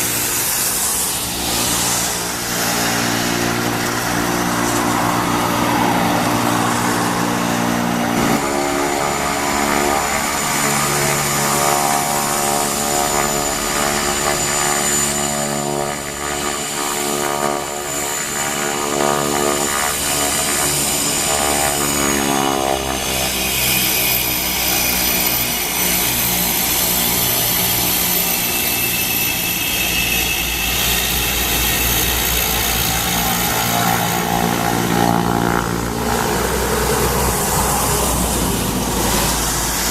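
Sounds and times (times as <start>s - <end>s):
turboprop engine whining: 0.0s - 39.9s.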